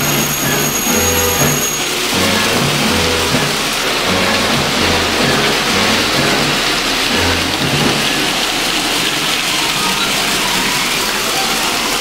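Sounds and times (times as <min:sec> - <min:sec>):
toy trains whirring on track: 0:00.0 - 0:12.0.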